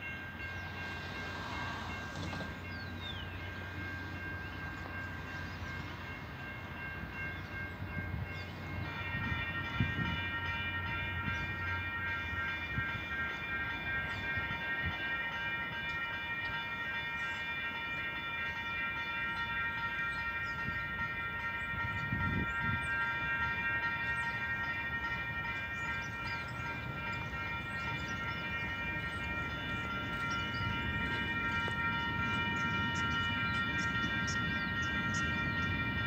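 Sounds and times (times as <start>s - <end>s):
freight train rumbling: 0.0s - 36.0s.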